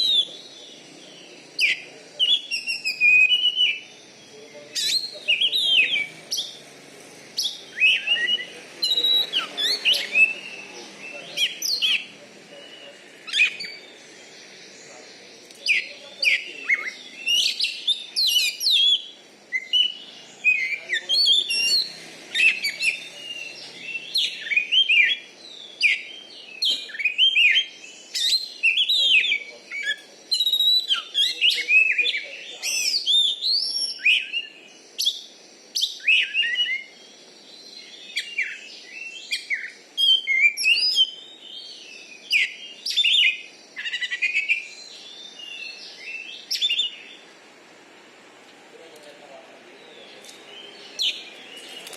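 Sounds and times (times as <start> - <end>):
bird singing whistled phrases: 0.0 - 1.0, 1.6 - 4.0, 4.7 - 6.6, 7.4 - 14.0, 15.6 - 37.0, 37.8 - 47.1.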